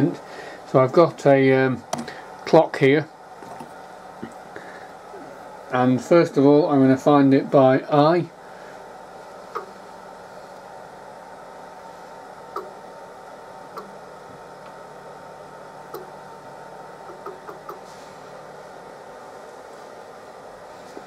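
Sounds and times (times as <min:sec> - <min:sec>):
steady workshop hum: 0:00.0 - 0:21.0.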